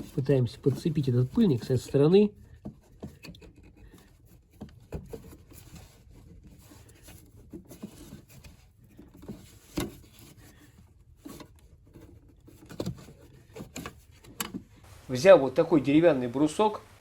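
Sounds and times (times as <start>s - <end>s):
light clicks and knocks: 0.0s - 14.8s.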